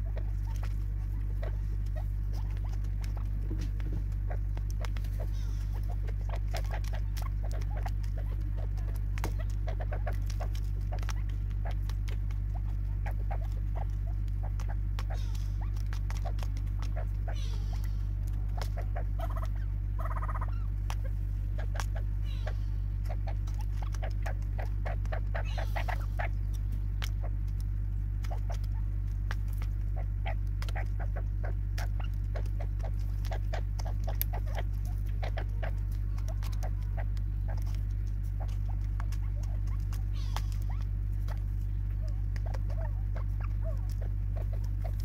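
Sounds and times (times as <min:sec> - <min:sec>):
birds pecking at plastic feeder: 0:00.0 - 0:45.0
low hum: 0:00.0 - 0:45.0.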